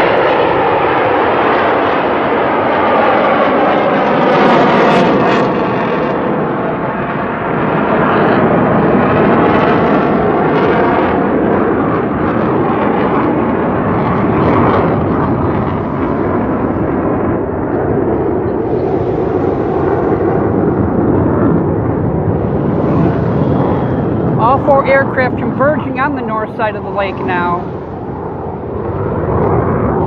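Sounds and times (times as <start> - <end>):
jet aircraft flying past: 0.0 - 30.0.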